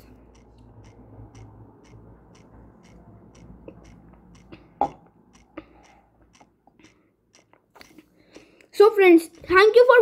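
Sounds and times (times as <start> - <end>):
faint regular ticking: 0.0 - 10.0.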